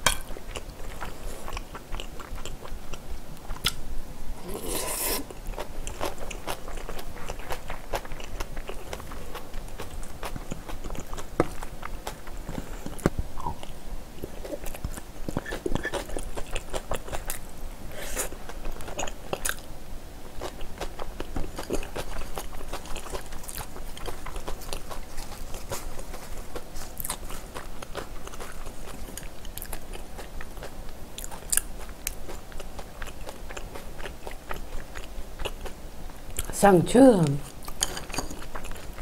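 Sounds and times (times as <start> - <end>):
chewing and crunching food: 0.0 - 3.8, 5.0 - 36.6, 37.4 - 39.0.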